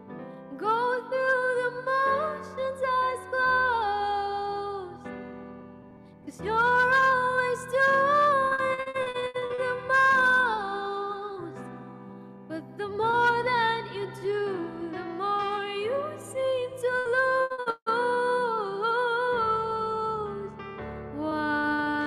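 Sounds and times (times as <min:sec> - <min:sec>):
woman singing a ballad: 0:00.1 - 0:05.6, 0:06.2 - 0:22.0.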